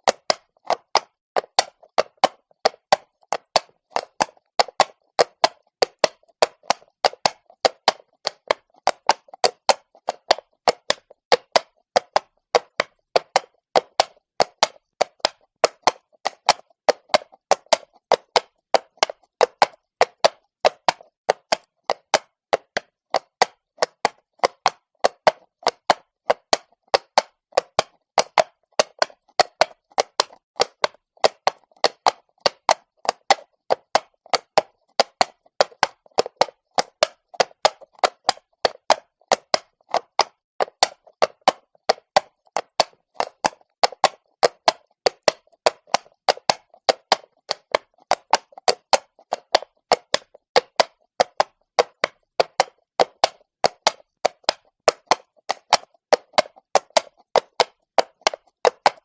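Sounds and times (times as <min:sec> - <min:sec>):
horse hooves on cobbles: 0:00.0 - 0:59.0.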